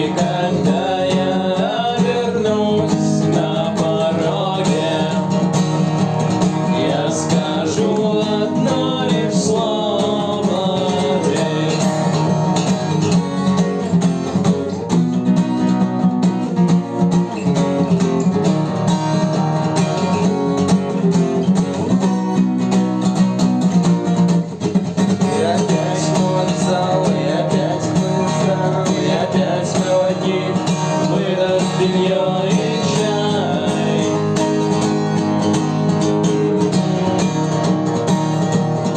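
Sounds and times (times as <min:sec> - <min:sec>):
guitar playing: 0:00.0 - 0:38.9.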